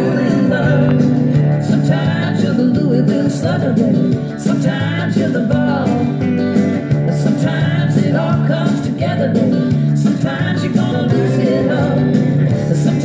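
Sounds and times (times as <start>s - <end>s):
country-rock music with guitar: 0.0s - 13.0s.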